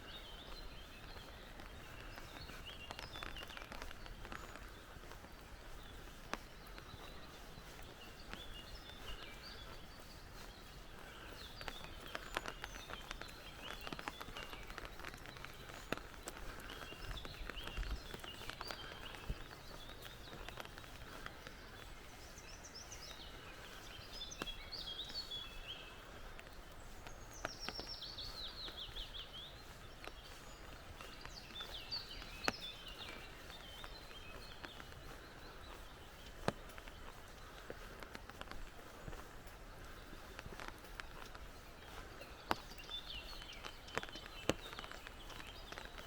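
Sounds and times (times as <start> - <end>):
birds singing: 0.0 - 46.0
footsteps clicking on trail: 0.0 - 46.0.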